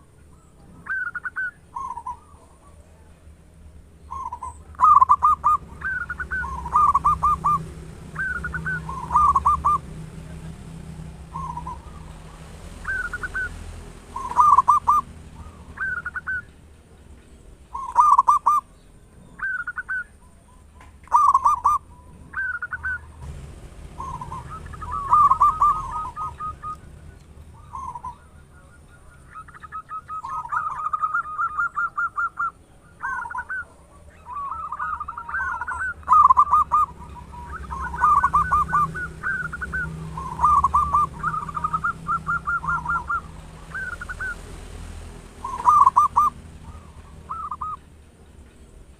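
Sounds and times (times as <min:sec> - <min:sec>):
dove cooing: 0:00.0 - 0:03.4, 0:04.1 - 0:16.6, 0:17.7 - 0:44.5, 0:45.4 - 0:47.8.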